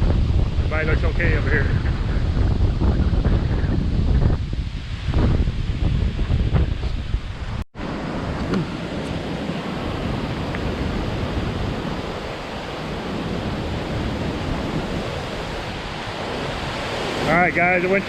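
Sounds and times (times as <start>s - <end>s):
wind rushing on microphone: 0.0s - 18.0s.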